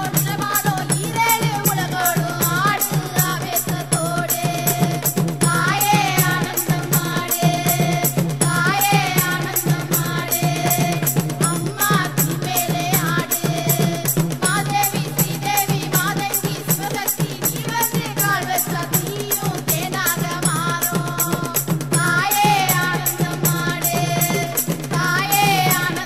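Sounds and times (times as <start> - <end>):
fast dense drumming: 0.0 - 26.0
women singing devotional song: 0.0 - 26.0.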